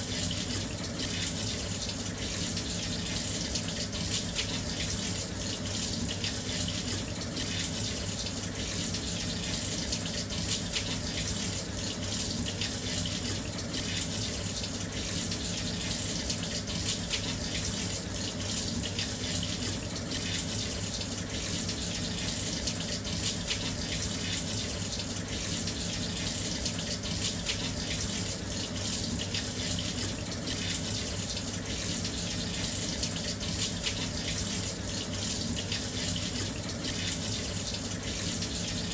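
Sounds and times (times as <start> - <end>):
washing machine filling with water: 0.0 - 38.9.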